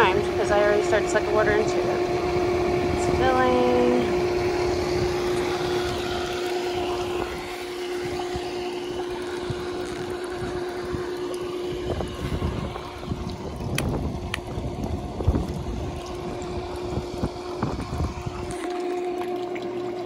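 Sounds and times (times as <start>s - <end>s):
wind on microphone: 0.0s - 8.5s, 9.4s - 18.6s
pump motor humming: 0.0s - 20.0s.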